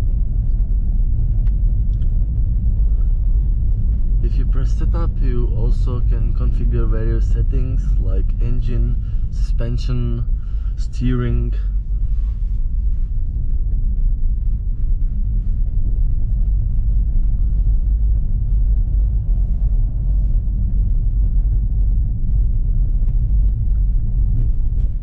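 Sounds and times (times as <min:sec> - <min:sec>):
car engine low rumble: 0:00.0 - 0:25.0.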